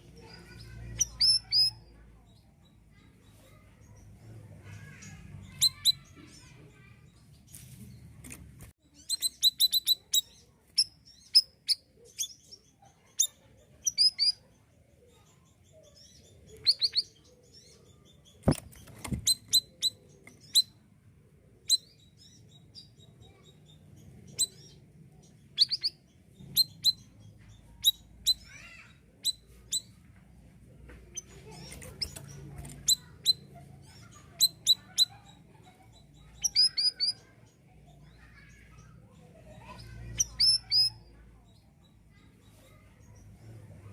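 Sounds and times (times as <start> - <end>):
songbird high chirps: 0.0 - 43.9.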